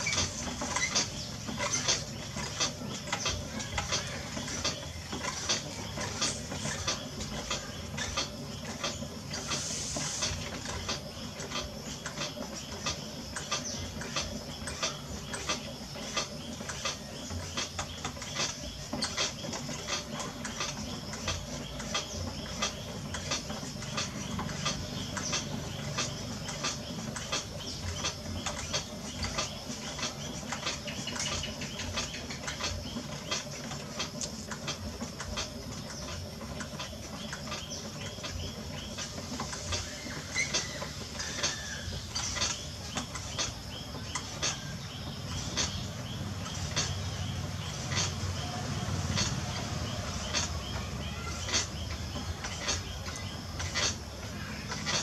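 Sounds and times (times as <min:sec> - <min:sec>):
potter's wheel humming: 0:00.0 - 0:55.0.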